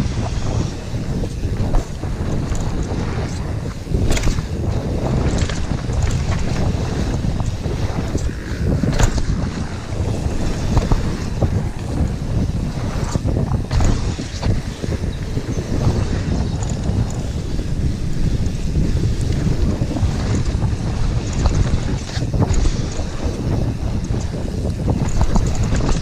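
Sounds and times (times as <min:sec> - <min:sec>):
bike clattering: 0:00.0 - 0:26.0
low rumble from trail: 0:00.0 - 0:26.0
wind rushing over microphone: 0:00.0 - 0:26.0.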